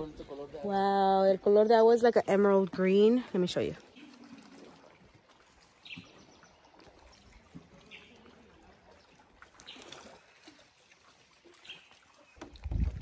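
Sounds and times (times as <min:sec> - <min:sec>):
water lapping on rocky shore: 0:00.0 - 0:13.0.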